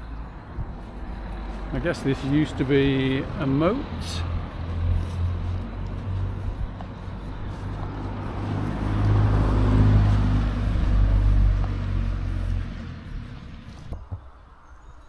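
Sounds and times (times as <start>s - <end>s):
motor vehicle passing by: 0.0s - 14.3s.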